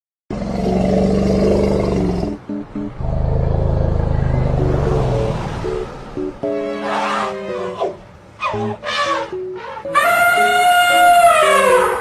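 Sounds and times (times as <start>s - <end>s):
background music: 2.2s - 12.0s.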